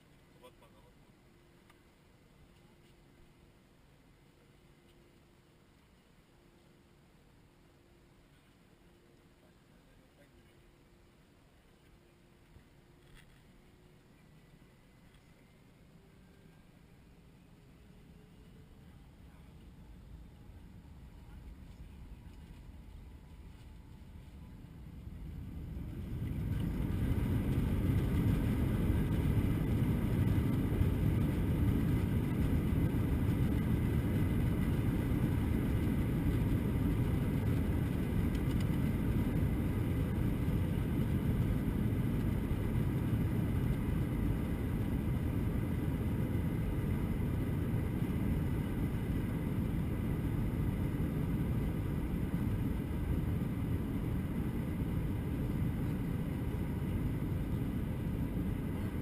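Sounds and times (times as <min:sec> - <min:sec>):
faint steady whines: 0:00.0 - 0:59.0
airliner cabin engine rumble: 0:08.0 - 0:59.0.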